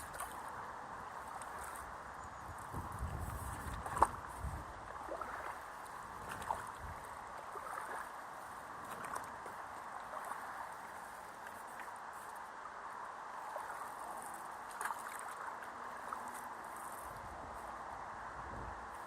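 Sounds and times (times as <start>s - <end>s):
light sharp splashes: 0.0s - 17.8s
water splashing and trickling: 0.0s - 19.0s.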